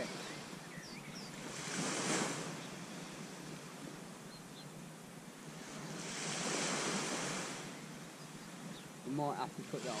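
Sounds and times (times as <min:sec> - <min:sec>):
small waves washing up a beach: 0:00.0 - 0:10.0.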